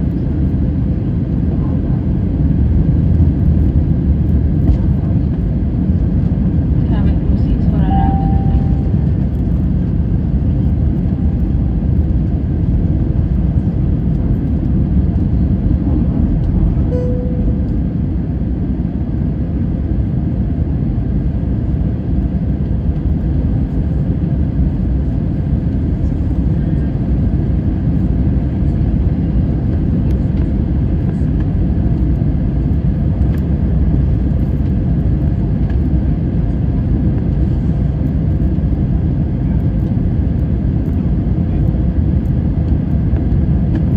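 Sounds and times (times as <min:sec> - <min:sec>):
jet airliner rumble: 0:00.0 - 0:43.9.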